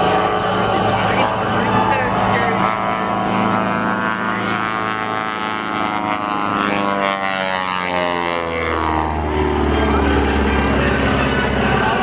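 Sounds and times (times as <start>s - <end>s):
propeller aircraft drone: 0.0s - 12.0s.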